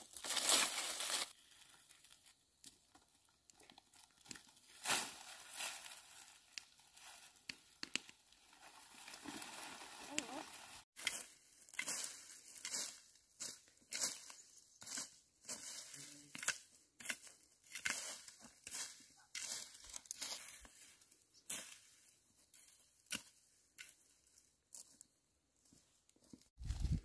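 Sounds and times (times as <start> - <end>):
dry grass rustling under rake: 0.0 - 2.8, 3.8 - 25.0.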